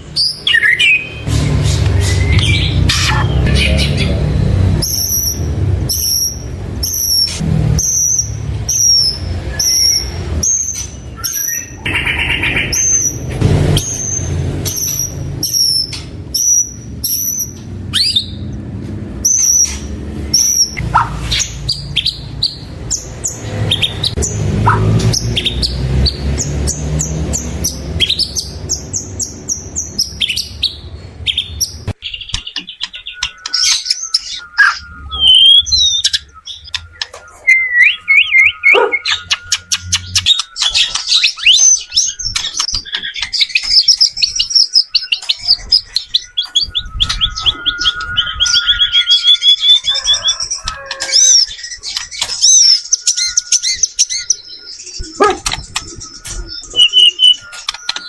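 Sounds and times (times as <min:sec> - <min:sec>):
bird singing chirps and whistles: 0:00.0 - 0:18.6, 0:19.2 - 0:58.0.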